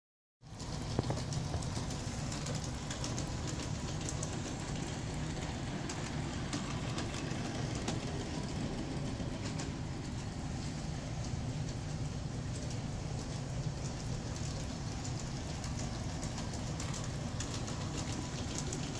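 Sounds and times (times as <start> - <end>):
model train hum and rumble: 0.5 - 18.9.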